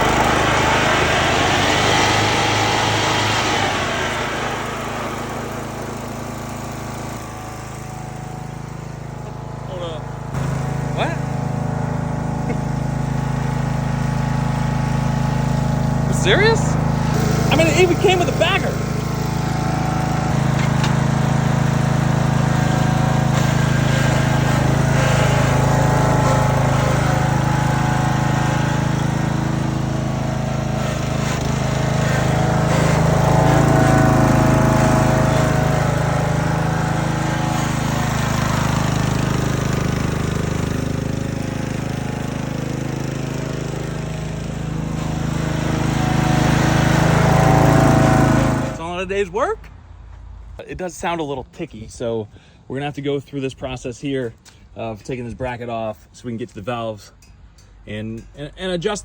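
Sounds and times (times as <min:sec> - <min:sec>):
mower engine running: 0:00.0 - 0:49.6.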